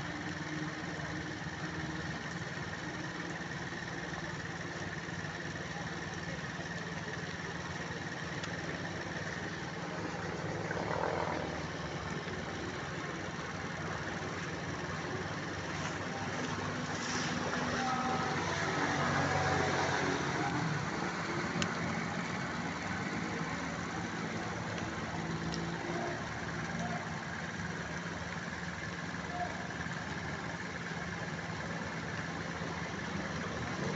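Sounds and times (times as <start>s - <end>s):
vehicle engines in traffic: 0.0s - 33.9s.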